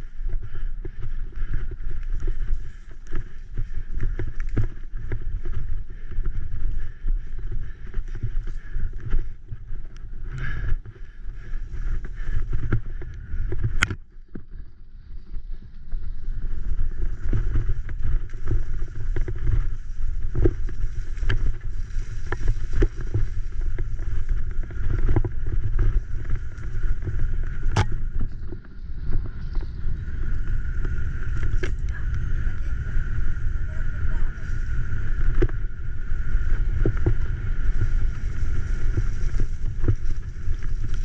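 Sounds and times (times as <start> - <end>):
bicycle rattles and knocks: 0.0 - 33.6, 34.4 - 41.0
bicycle rumbling over rough ground: 0.0 - 41.0.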